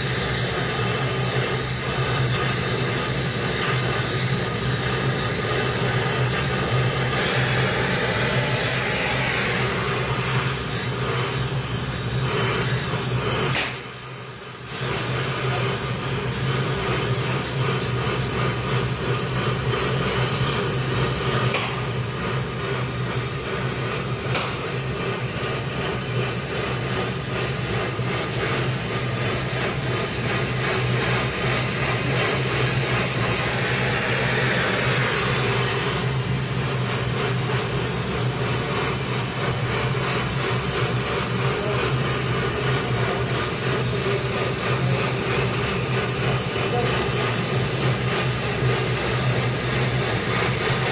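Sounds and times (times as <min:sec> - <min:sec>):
welding torch hissing roar: 0:00.0 - 0:50.9.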